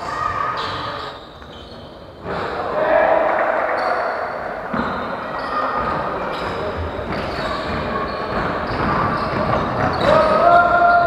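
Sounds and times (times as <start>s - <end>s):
players moving on court: 1.4s - 11.0s.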